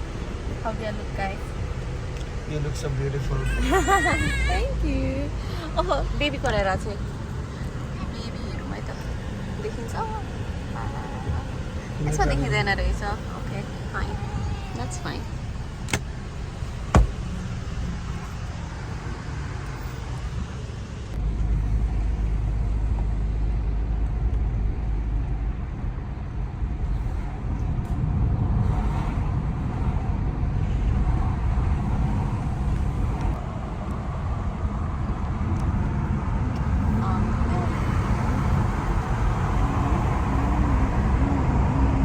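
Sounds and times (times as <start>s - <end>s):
car road noise rumble: 0.0s - 42.0s.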